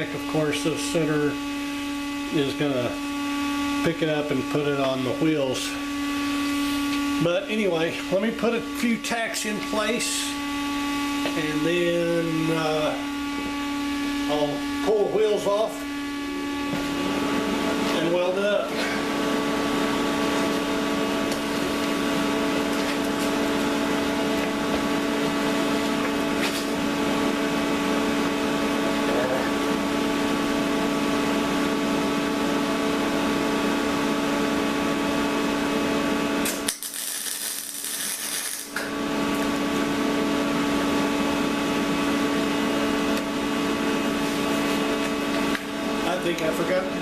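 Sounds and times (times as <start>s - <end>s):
welder humming and crackling: 0.0s - 47.0s.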